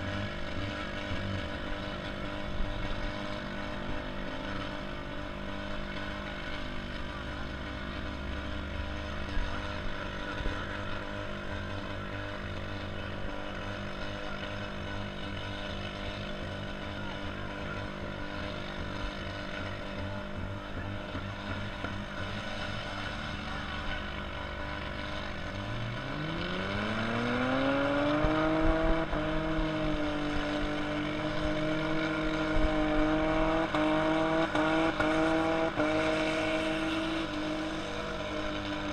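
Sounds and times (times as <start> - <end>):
car engine running and revving: 0.0 - 38.9.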